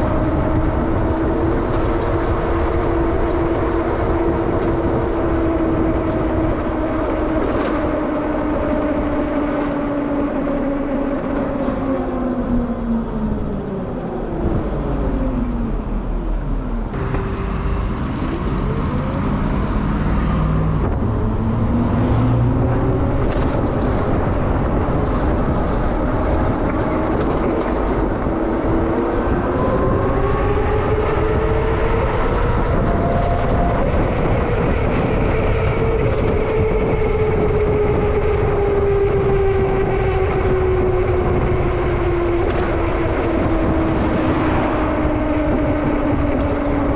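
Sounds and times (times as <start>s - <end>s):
wind and road rumble: 0.0s - 46.9s.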